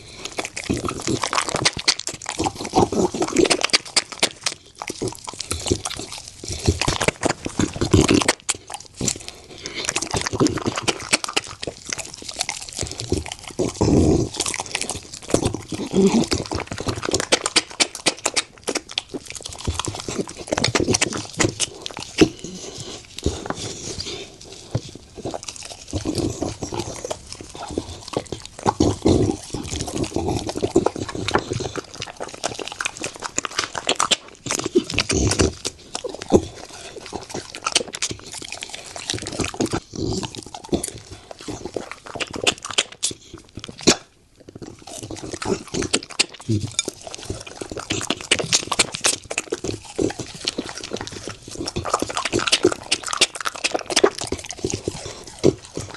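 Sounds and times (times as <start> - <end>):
dog chewing and crunching bone: 0.0 - 55.9.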